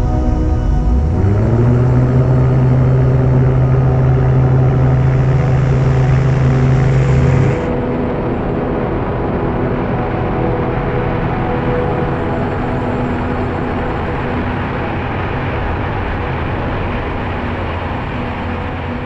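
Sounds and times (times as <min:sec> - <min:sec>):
aircraft engine drone in cockpit: 0:00.0 - 0:19.0
engine and propeller rush: 0:00.0 - 0:19.0.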